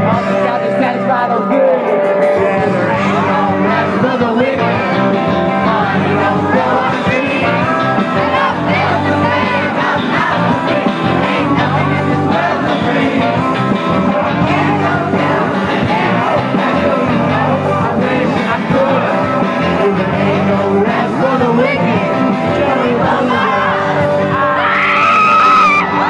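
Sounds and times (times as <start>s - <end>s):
drums: 0.0s - 26.0s
lead singer singing: 0.0s - 26.0s
live rock band playing: 0.0s - 26.0s.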